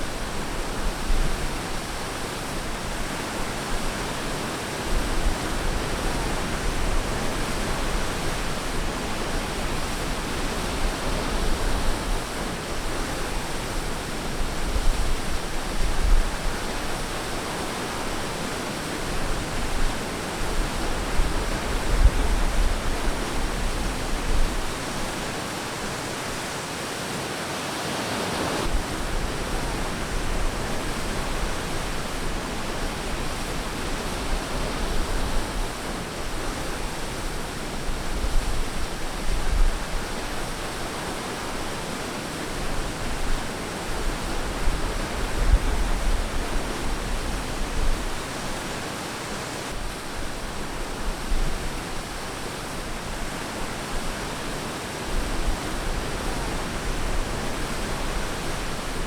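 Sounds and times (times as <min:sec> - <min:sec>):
ocean surf washing on beach: 0:00.0 - 0:59.0.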